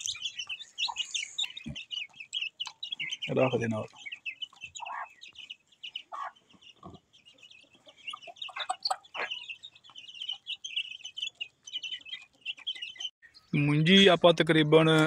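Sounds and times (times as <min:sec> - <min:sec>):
hen clucking: 0:00.0 - 0:14.2
chicks peeping: 0:00.0 - 0:15.0.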